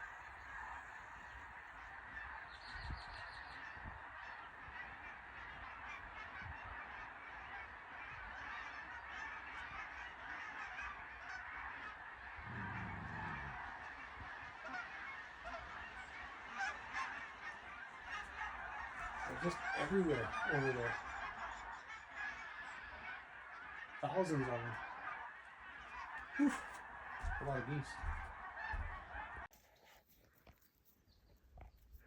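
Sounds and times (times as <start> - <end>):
flock of geese honking: 0.0 - 29.7.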